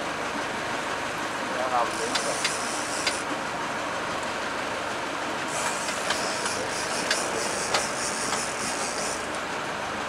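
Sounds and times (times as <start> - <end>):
boat engine running: 0.0 - 10.0
wind: 0.0 - 10.0.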